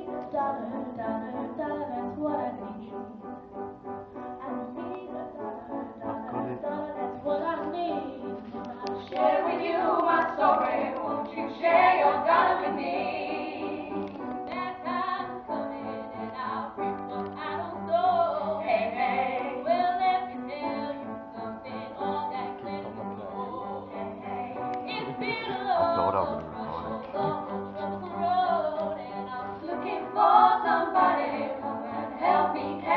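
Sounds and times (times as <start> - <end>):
girls singing: 0.0 - 3.2, 4.5 - 32.9
instrumental accompaniment: 0.0 - 32.9.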